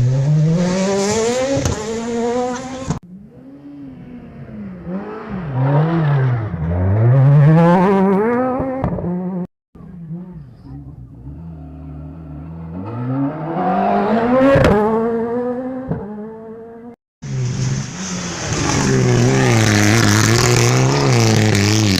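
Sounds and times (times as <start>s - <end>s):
rally car engine accelerating: 0.0s - 21.9s.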